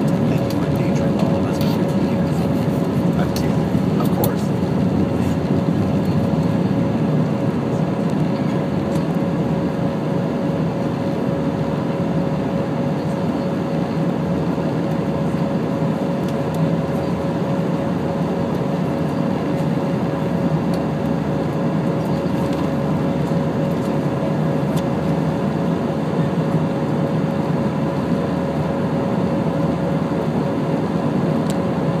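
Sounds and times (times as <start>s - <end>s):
airliner cabin drone: 0.0s - 32.0s.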